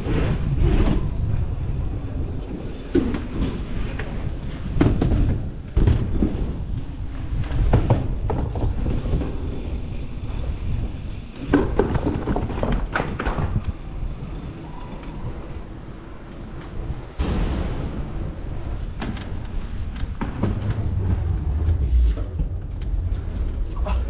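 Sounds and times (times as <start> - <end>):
bike knocks and clatters: 0.0 - 23.5
tyres rolling: 0.0 - 24.0
wind rumble on microphone: 0.0 - 24.0.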